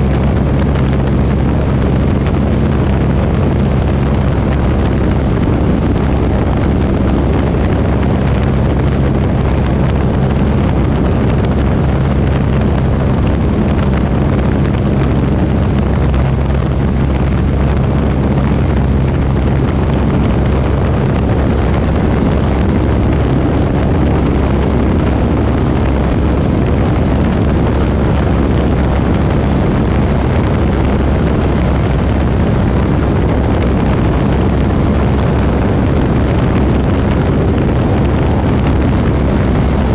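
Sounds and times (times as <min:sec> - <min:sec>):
light aircraft engine and propeller: 0:00.0 - 0:39.9
wind noise: 0:00.0 - 0:39.9.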